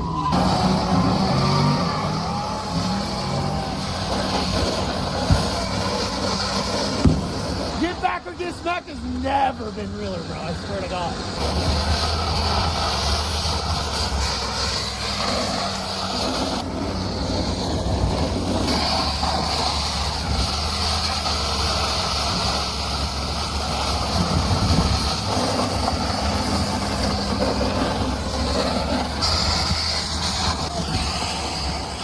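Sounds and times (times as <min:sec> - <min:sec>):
rumbling road noise: 0:00.0 - 0:32.0.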